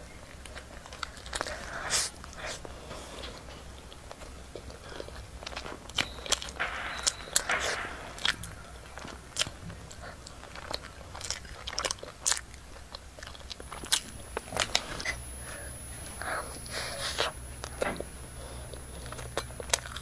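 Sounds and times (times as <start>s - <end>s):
pastry crunching chewing: 0.0s - 20.0s.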